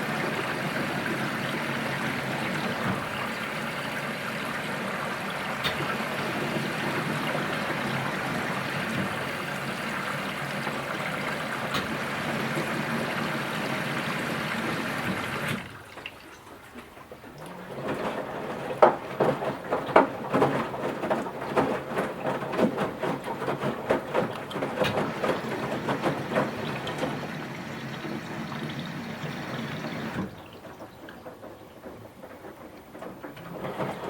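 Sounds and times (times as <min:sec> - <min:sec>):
laundry sloshing and thumping: 0:00.0 - 0:34.0
water running into washing machine: 0:00.0 - 0:34.0.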